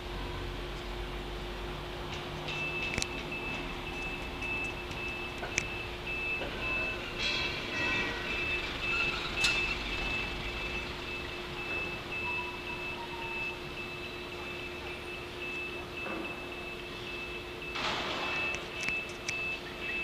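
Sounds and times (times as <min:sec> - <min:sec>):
street traffic hum: 0:00.0 - 0:20.0
truck reverse beeper: 0:02.5 - 0:20.0.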